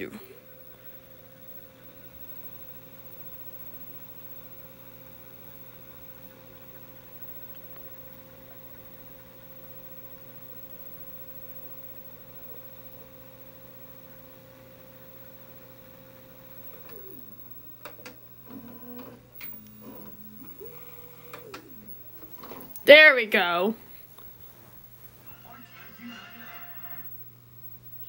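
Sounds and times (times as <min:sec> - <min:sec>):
tape rewinding motor hum: 0:00.0 - 0:28.0.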